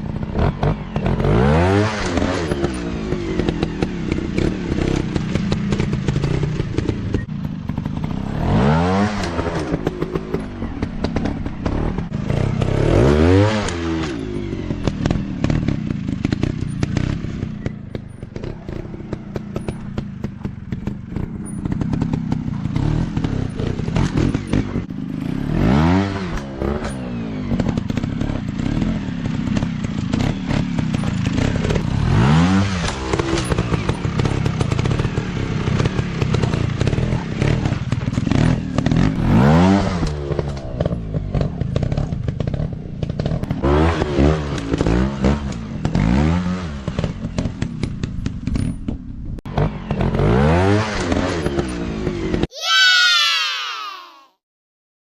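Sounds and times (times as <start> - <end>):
dirt bike engines revving: 0.0 - 47.6.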